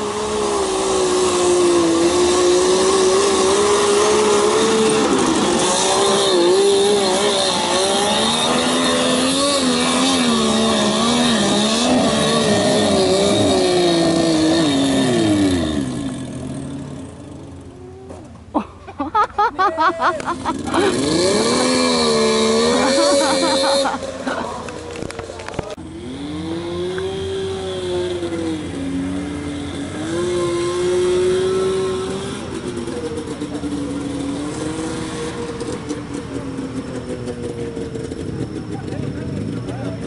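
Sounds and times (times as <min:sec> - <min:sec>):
off-road engine labouring: 0:00.0 - 0:40.0.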